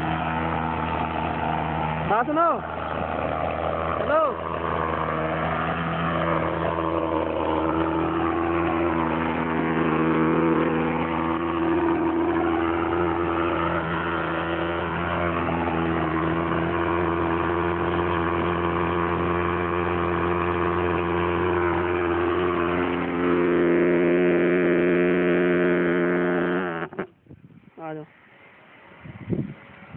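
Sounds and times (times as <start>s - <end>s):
fogging machine droning: 0.0s - 27.2s.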